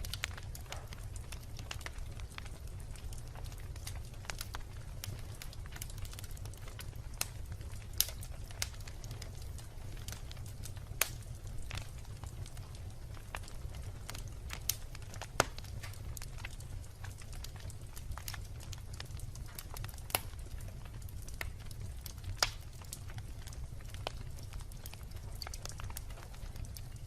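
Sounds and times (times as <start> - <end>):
wood bonfire crackling: 0.0 - 27.0.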